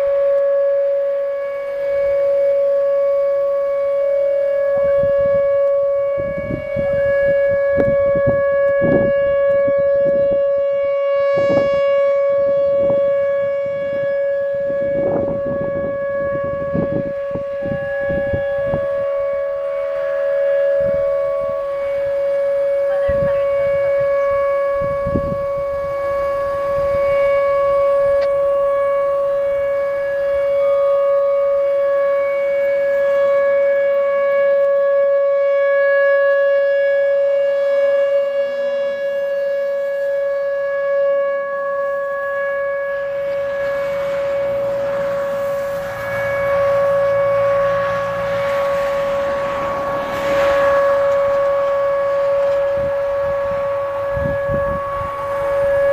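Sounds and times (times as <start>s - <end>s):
rotating siren steady tone: 0.0s - 55.9s.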